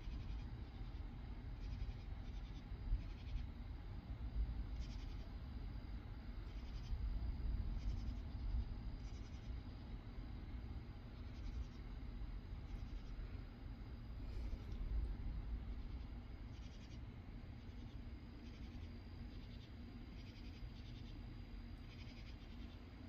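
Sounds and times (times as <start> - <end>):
night insects chirping: 0.0 - 23.0
steady low rumble: 0.0 - 23.0.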